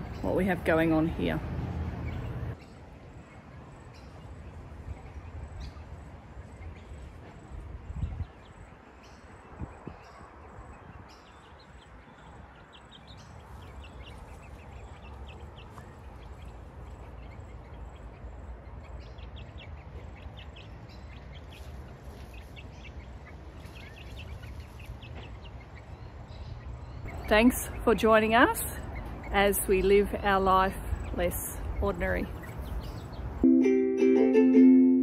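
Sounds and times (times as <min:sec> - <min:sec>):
birds chirping: 0:00.0 - 0:33.5.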